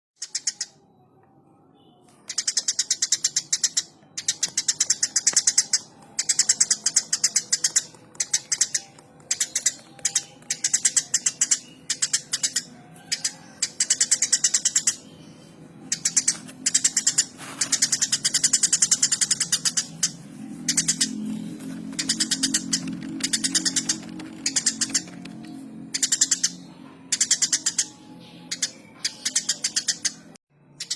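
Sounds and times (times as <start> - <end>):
sparrow chirping: 0.2 - 0.8, 1.8 - 30.9.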